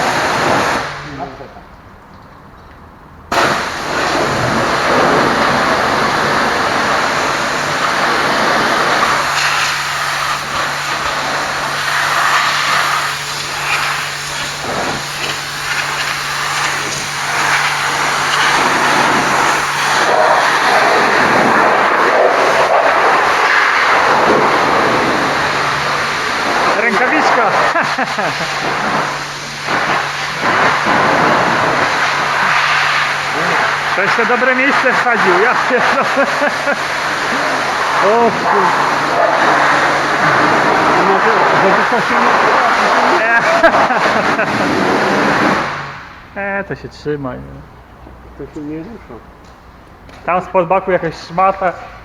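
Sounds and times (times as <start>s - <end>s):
pressure washer jet spraying: 0.0s - 2.1s, 3.3s - 46.9s
steady low hum: 0.0s - 52.0s.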